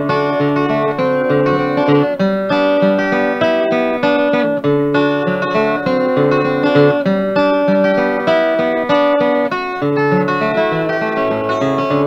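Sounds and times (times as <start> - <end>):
acoustic guitar blues melody: 0.0 - 12.0.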